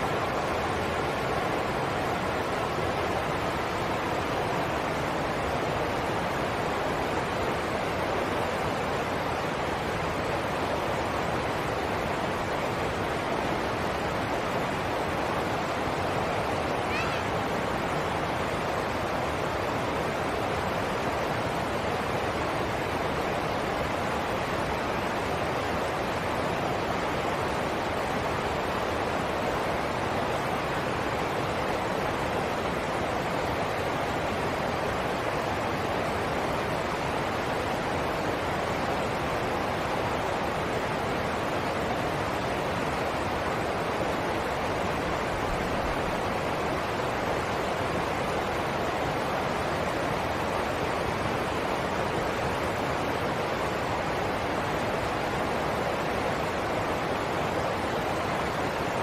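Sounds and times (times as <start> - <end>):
stream rushing over rapids: 0.0 - 59.0.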